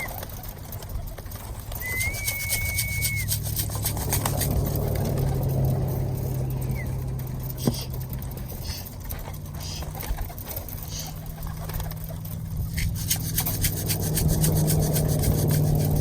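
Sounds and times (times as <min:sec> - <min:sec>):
pigeon wings fluttering: 0:00.0 - 0:16.0
steady low hum: 0:00.0 - 0:16.0.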